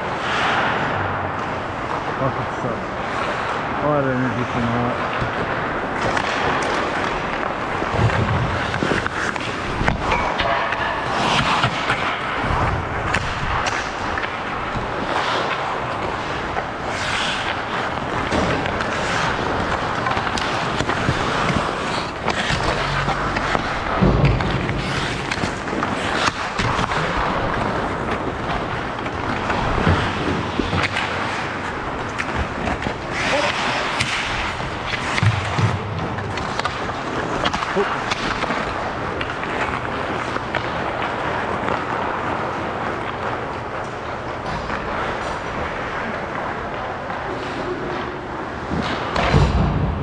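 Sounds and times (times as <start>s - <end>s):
skate blades scraping on ice: 4.4s - 49.6s
hockey sticks and puck knocking: 5.1s - 50.0s.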